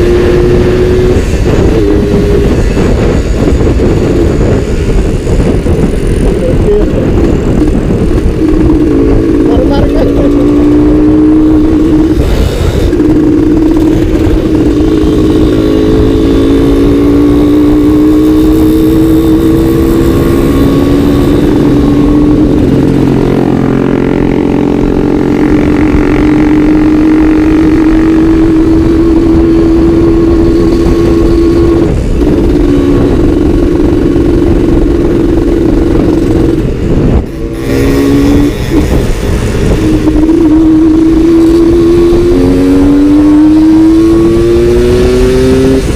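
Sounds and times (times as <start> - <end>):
two-stroke motorcycle engine running: 0.0 - 45.9.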